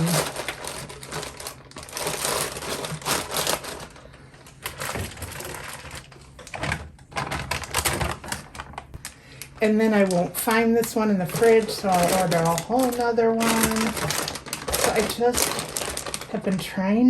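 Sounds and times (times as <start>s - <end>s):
bags clattering into plastic bin: 0.0s - 4.0s, 4.6s - 9.0s, 9.8s - 16.7s
plastic bags crinkling: 0.0s - 17.0s.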